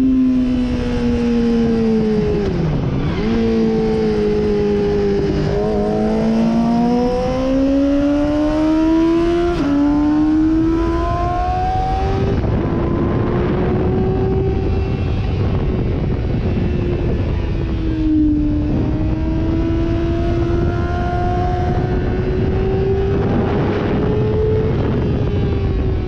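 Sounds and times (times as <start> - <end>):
motorcycle engine: 0.0 - 26.0
rushing wind: 0.0 - 26.0.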